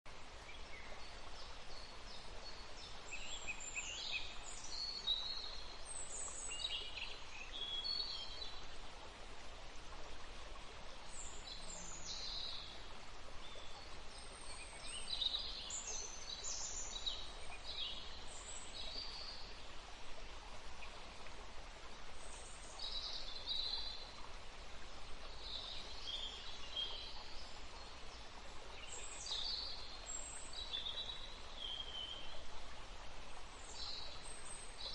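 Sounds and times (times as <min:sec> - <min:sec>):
river flowing: 0:00.1 - 0:34.9.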